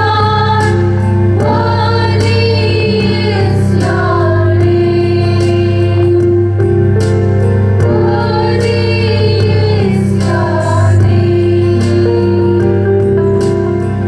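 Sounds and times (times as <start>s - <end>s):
voices singing: 0.0s - 13.8s
held instrumental chords: 0.0s - 14.0s.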